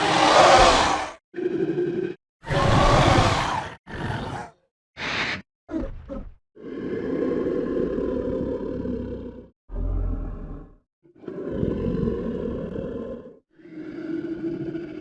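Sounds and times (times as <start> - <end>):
low creature roars: 0.0 - 4.6, 6.6 - 15.0.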